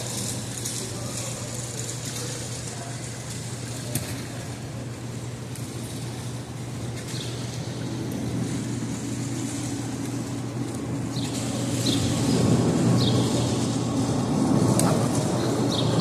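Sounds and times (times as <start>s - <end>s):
city traffic rumble: 0.0s - 16.0s
low hum: 0.0s - 16.0s.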